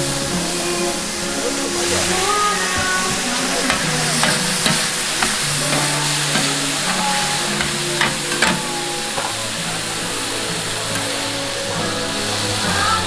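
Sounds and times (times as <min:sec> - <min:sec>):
background music: 0:00.0 - 0:13.0
steak sizzling in a hot pan: 0:00.0 - 0:13.0.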